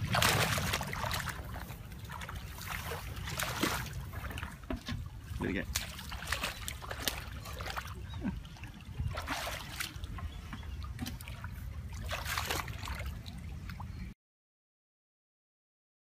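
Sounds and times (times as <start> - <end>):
water sloshing in a bucket: 0.0 - 14.1.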